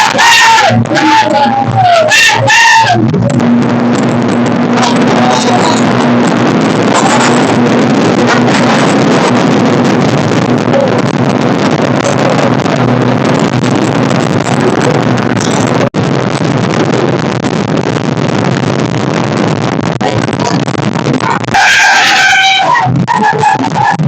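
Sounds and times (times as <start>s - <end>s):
motorboat engine running: 0.0s - 24.0s
wind buffeting microphone: 0.0s - 24.0s.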